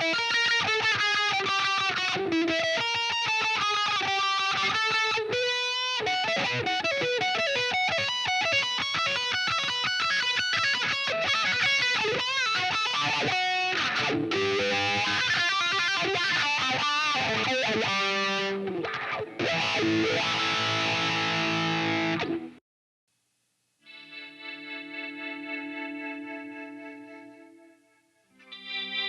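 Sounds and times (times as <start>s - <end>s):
electric guitar with effects: 0.0s - 22.6s, 23.8s - 29.0s.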